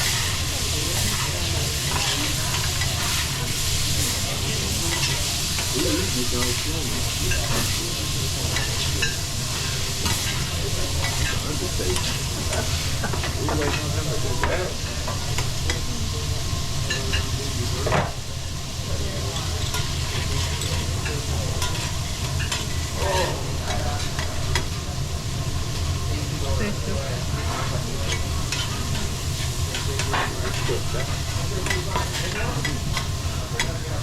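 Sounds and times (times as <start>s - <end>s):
food sizzling on a griddle: 0.0s - 34.0s.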